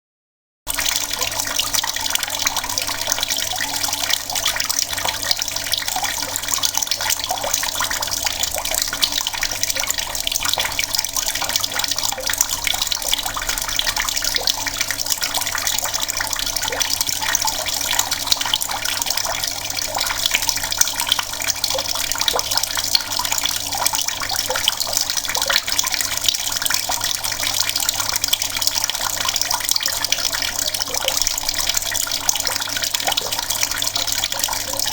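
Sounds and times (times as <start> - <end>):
water running from a tap: 0.7 - 34.9.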